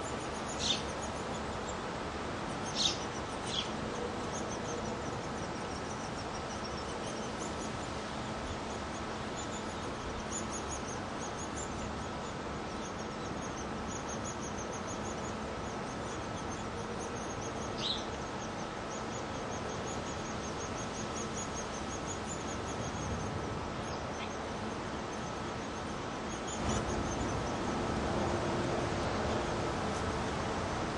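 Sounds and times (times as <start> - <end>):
bird chirp: 0.2 - 1.8, 2.6 - 11.9, 12.7 - 27.7.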